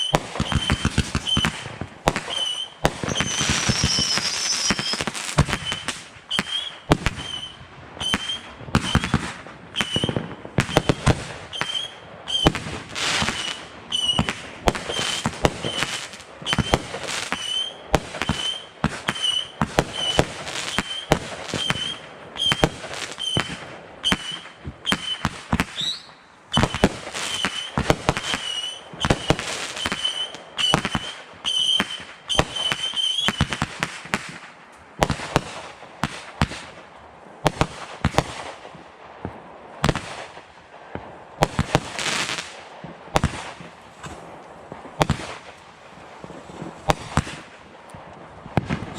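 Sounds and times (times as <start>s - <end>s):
fireworks bangs and pops: 0.0s - 48.9s.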